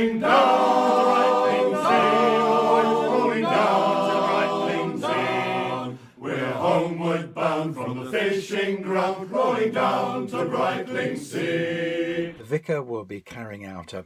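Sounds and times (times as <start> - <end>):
men singing in harmony: 0.0 - 12.4.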